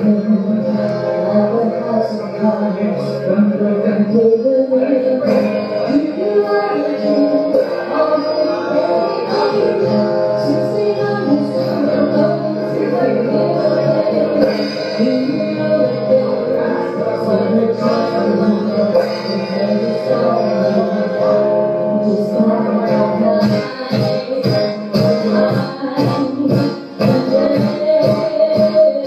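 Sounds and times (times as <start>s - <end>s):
acoustic guitar: 0.0s - 29.0s
woman singing: 0.0s - 29.0s
drums: 3.0s - 29.0s.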